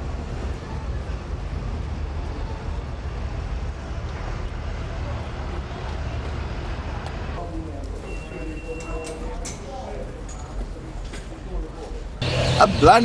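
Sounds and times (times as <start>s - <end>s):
city street noise: 0.0s - 13.0s
low traffic rumble: 0.0s - 13.0s.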